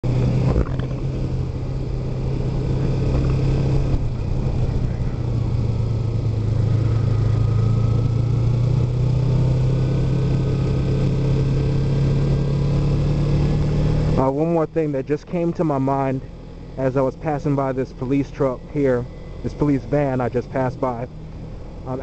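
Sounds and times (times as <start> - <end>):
motorcycle engine cruising: 0.0 - 22.0
road and wind noise: 0.0 - 22.0.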